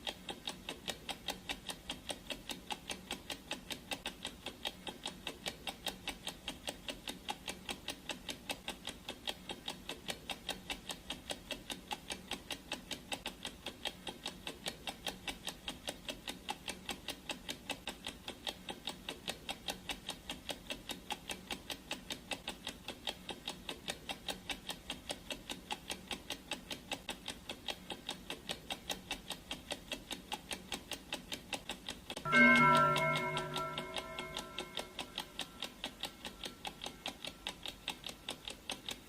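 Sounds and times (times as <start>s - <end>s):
clock ticking: 0.0s - 39.0s.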